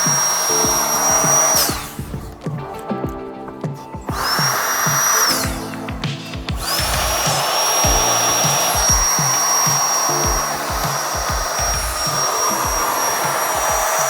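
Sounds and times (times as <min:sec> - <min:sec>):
electric blower whining: 0:00.0 - 0:02.4, 0:04.1 - 0:14.0
background music with beat: 0:00.0 - 0:14.0.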